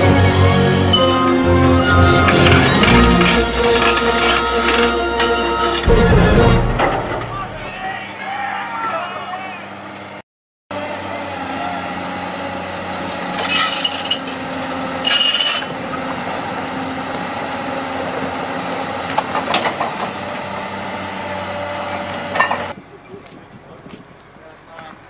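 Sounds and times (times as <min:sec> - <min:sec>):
excavator engine with high whine: 0:00.0 - 0:25.0.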